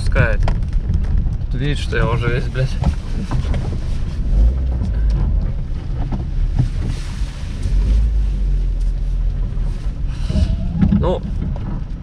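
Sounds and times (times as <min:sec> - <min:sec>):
car engine rumbling: 0:00.0 - 0:12.0
wind noise on microphone: 0:00.0 - 0:12.0.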